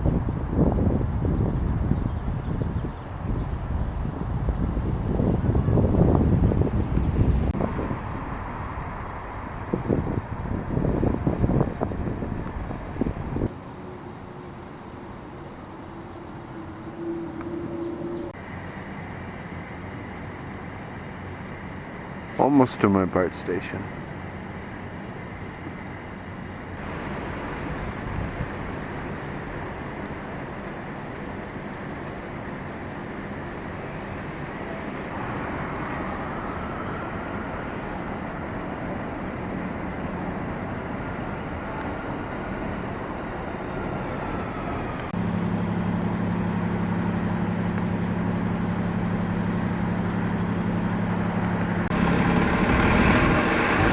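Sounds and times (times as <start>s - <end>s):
vehicle humming: 0.0s - 22.2s, 24.0s - 53.9s
street traffic noise: 0.0s - 53.9s.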